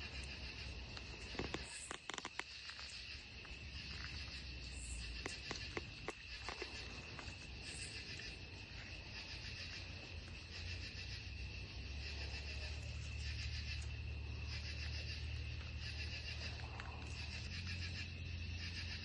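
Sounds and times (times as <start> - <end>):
crickets trilling: 0.0 - 19.0
short high-pitched insect call: 0.0 - 19.0.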